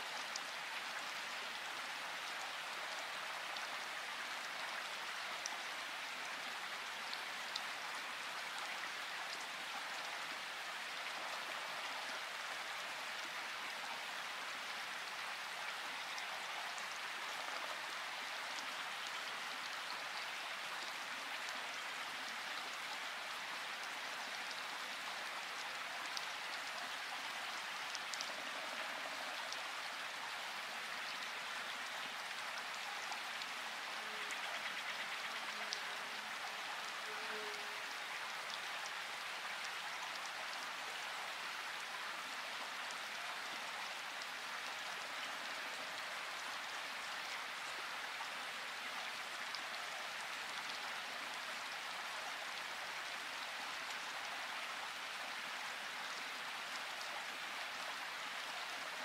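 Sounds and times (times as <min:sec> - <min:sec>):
steady hissing noise: 0:00.0 - 0:59.0.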